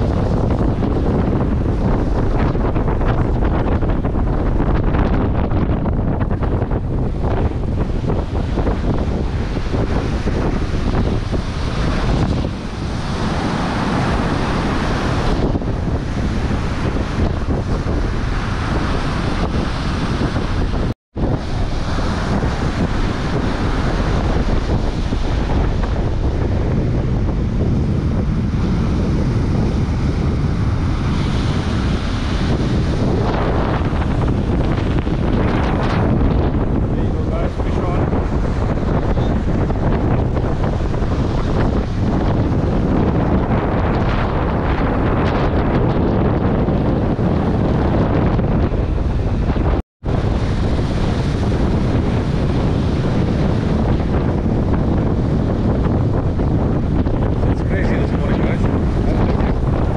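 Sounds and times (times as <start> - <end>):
surf breaking on beach: 0.0 - 59.9
wind buffeting microphone: 0.0 - 59.9.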